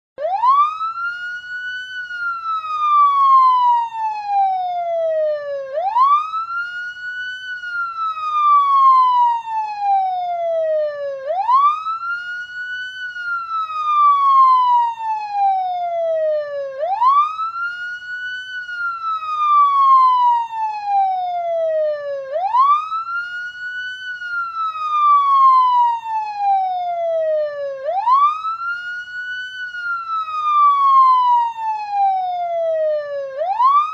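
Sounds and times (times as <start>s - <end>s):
police siren wailing: 0.2s - 33.9s.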